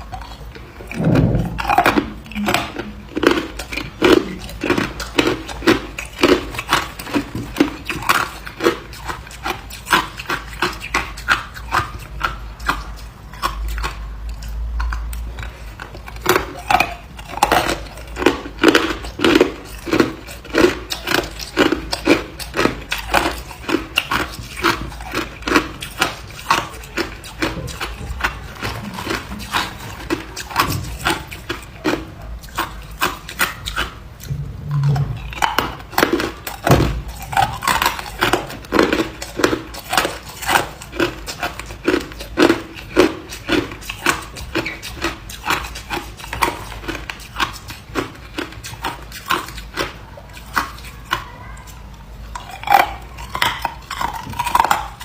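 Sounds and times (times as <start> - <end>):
ice crunching between teeth: 0.0 - 51.2.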